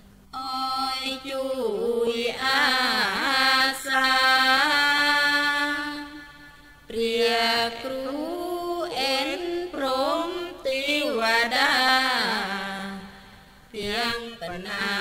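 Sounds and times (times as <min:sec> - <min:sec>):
person chanting: 0:00.3 - 0:15.0.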